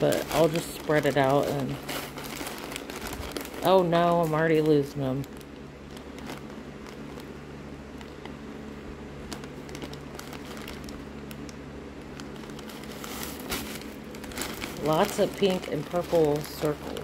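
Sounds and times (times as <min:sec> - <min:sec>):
plastic bag crinkling: 0:00.0 - 0:17.0
steady low hum: 0:00.0 - 0:17.0.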